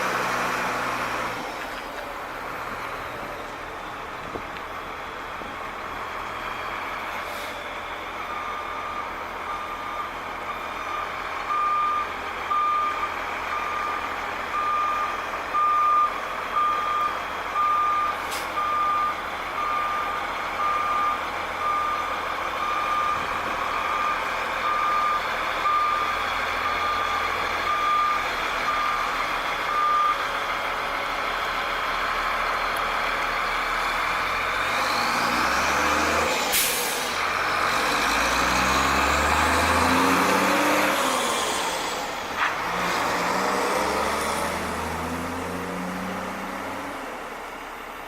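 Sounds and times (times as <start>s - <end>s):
truck backup alarm beeping: 2.1s - 42.2s.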